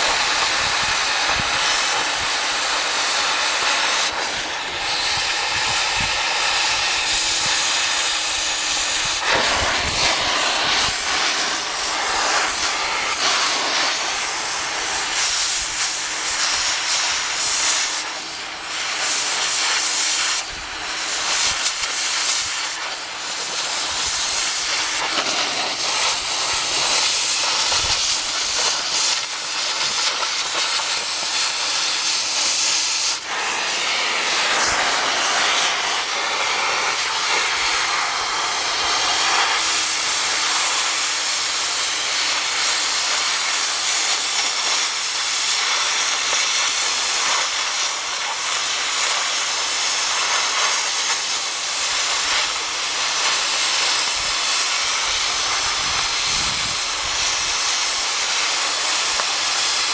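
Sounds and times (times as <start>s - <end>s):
cutting torch hissing: 0.0s - 59.9s.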